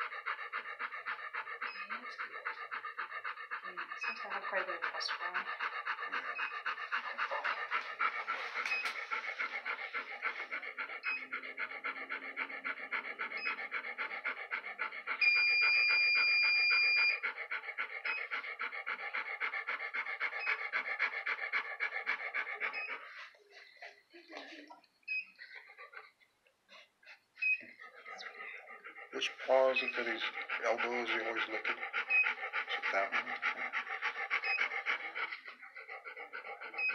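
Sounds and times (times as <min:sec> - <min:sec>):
dog panting: 0:00.0 - 0:36.9.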